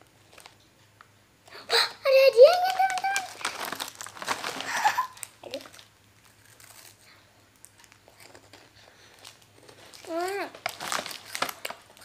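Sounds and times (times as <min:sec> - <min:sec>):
plastic snack packaging crinkling: 0:00.2 - 0:00.7, 0:02.1 - 0:12.0.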